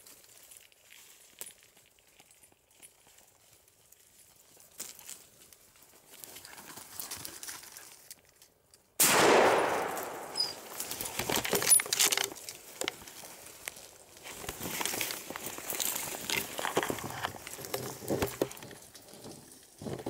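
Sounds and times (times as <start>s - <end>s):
twigs and dry leaves crackling: 0.0s - 20.0s.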